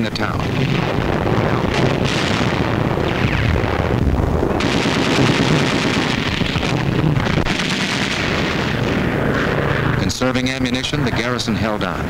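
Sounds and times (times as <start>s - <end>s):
steady rumble: 0.0s - 12.0s
rapid gunfire: 0.4s - 10.4s.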